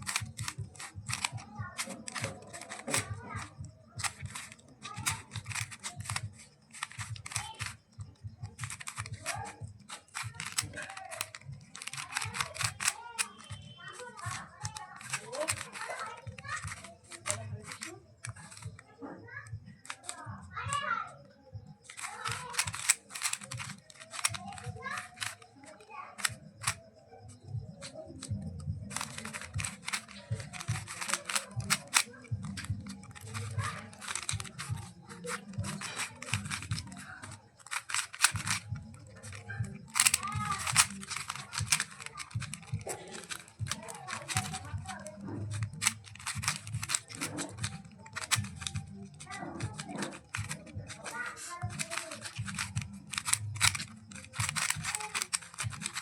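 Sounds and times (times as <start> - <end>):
puzzle cube clicking: 0.0 - 56.0.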